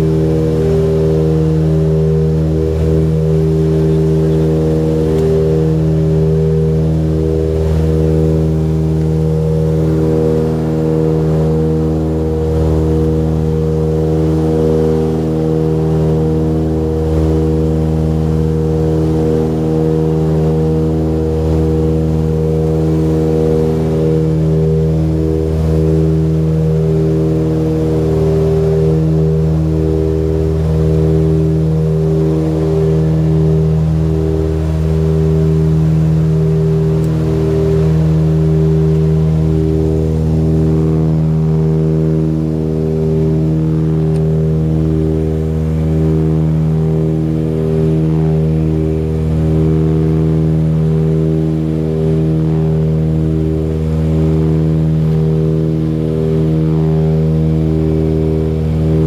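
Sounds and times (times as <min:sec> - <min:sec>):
propeller aircraft cabin drone: 0:00.0 - 0:59.0.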